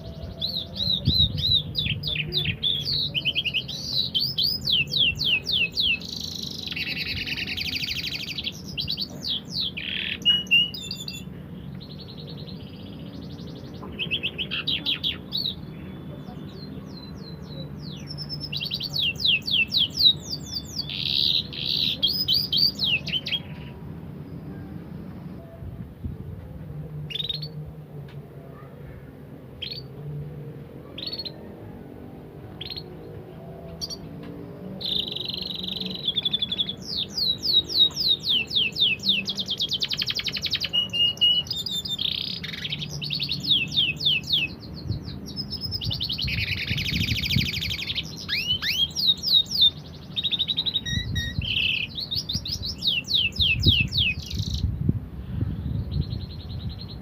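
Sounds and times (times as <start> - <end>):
canary singing: 0.0 - 24.6, 27.1 - 27.7, 29.6 - 30.2, 30.8 - 31.7, 32.5 - 54.7.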